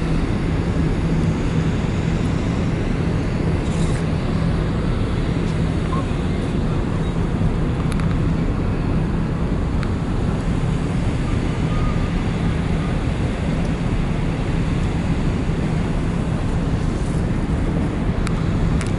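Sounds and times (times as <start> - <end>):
ship machinery drone: 0.0 - 18.9.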